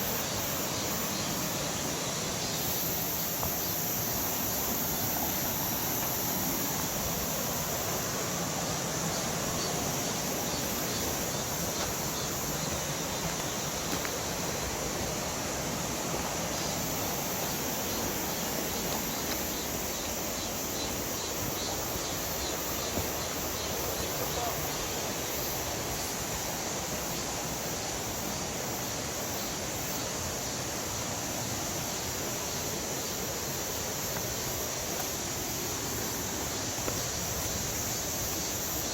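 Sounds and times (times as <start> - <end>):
water rushing over rocks: 0.0 - 20.5, 21.3 - 38.9.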